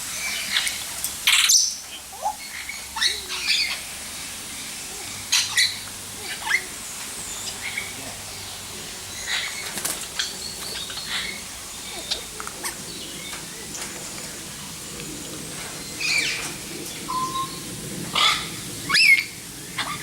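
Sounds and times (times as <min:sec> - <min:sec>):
steady background hiss: 0:00.0 - 0:20.0
birds squawking and chirping: 0:00.2 - 0:20.0.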